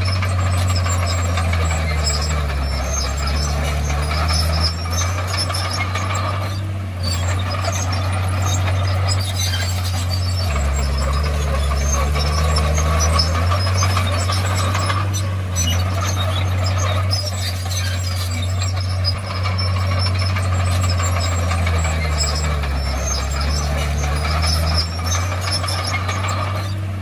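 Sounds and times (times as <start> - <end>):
bulldozer diesel engine: 0.0 - 27.0
steel tracks squeaking and clanking: 0.0 - 27.0.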